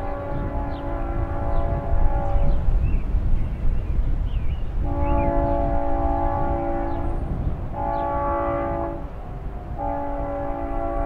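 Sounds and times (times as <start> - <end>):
train air horn blasts: 0.0 - 2.7, 4.8 - 11.0
low train rumble: 0.0 - 11.0.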